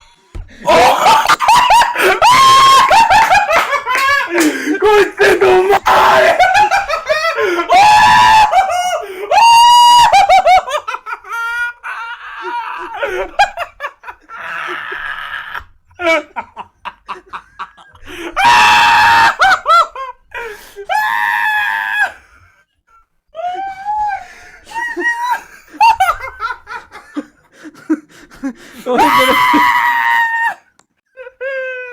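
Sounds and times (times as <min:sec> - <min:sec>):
person laughing maniacally: 0:00.6 - 0:20.2, 0:23.6 - 0:30.0.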